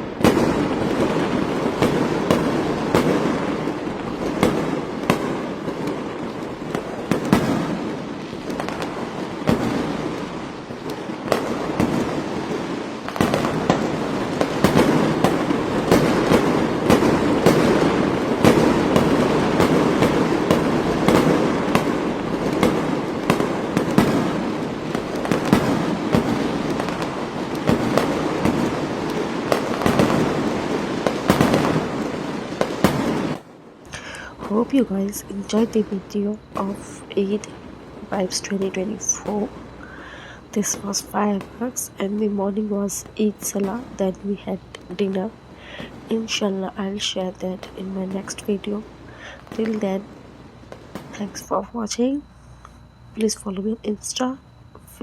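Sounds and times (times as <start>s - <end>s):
fireworks bangs and pops: 0.0s - 51.5s.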